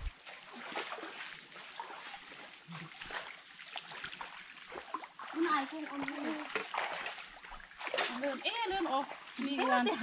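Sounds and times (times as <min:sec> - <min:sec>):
stream water trickling and splashing: 0:00.0 - 0:10.0.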